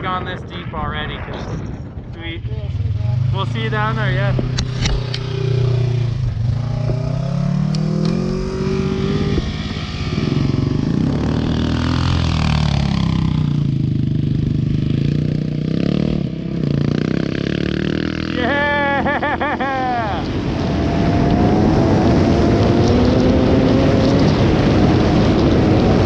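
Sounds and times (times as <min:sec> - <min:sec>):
dirt bike engine revving: 0:02.7 - 0:26.0.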